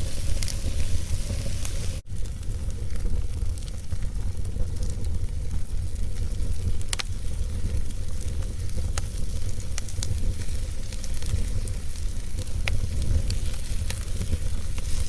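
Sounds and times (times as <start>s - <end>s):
fire pops: 0.0s - 15.0s
wood fire crackling: 0.0s - 15.0s.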